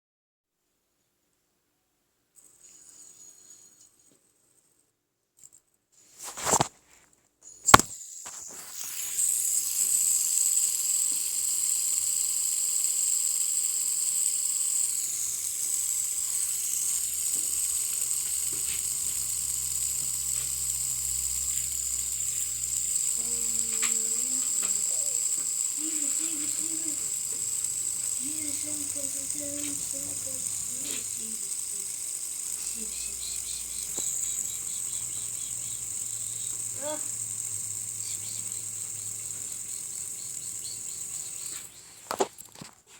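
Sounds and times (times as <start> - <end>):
fidget spinner whirring: 2.4 - 4.4, 6.2 - 6.8, 7.4 - 42.9
fidget spinner clicks: 6.2 - 6.7, 7.4 - 42.8.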